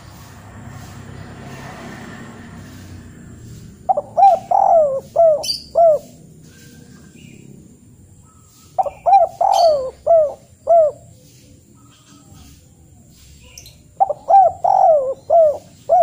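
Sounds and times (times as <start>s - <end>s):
bird calling: 2.8s - 16.0s.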